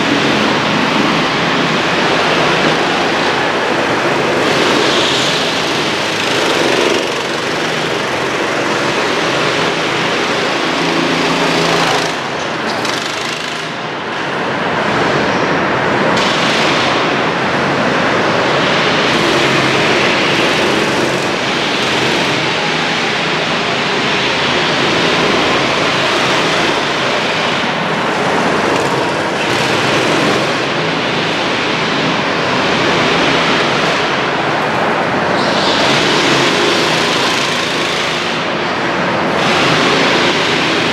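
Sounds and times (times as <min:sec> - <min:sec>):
go-kart engines passing: 0:00.0 - 0:40.9.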